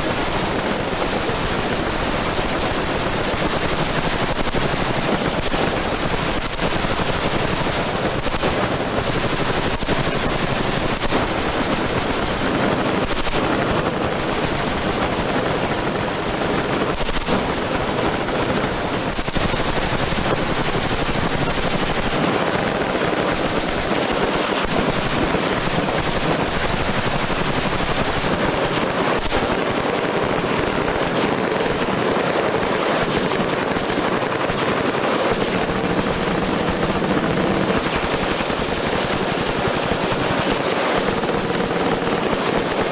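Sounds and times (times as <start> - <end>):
machine-gun fire: 0.0 - 42.9.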